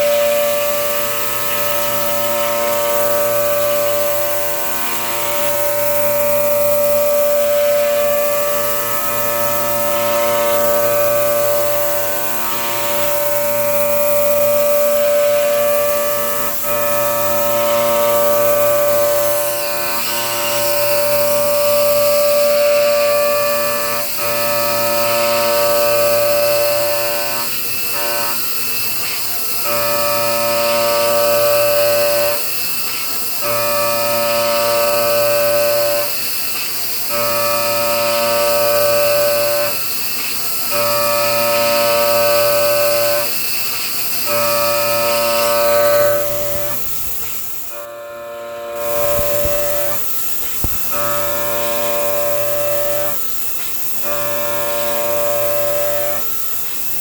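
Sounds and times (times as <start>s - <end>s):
milling cutter whining: 0.0s - 57.0s.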